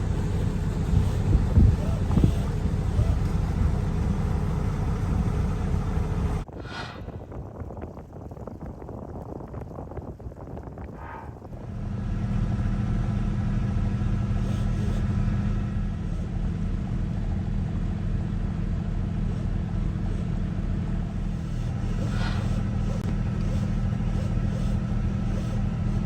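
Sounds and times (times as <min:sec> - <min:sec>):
engine running: 0:00.0 - 0:07.3, 0:10.9 - 0:26.0.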